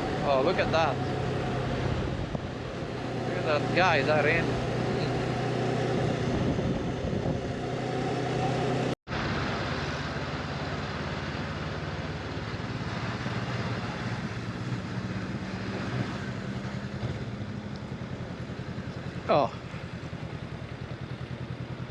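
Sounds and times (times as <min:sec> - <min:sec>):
motorcycle engine running: 0:00.0 - 0:21.9
wind and road noise: 0:00.0 - 0:21.9.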